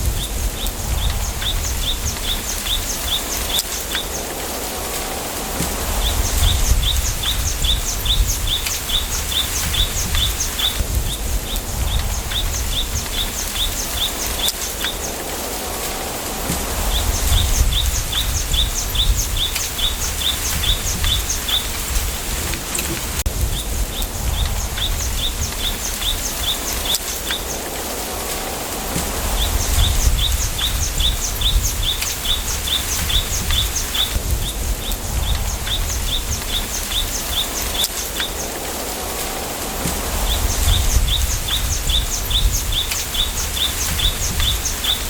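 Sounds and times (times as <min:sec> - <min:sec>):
bamboo leaves rustling: 0:00.0 - 0:45.0
wind rumble on microphone: 0:00.0 - 0:45.0.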